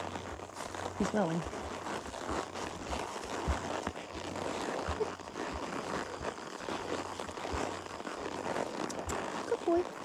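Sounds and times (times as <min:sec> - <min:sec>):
horse hooves thudding: 0:00.0 - 0:10.0
steady rustling: 0:00.0 - 0:10.0.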